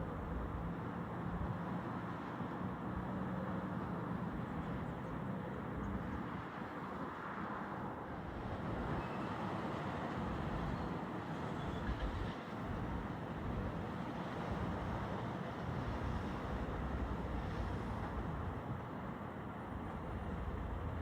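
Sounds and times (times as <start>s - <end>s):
outdoor rumble and hiss: 0.0s - 21.0s.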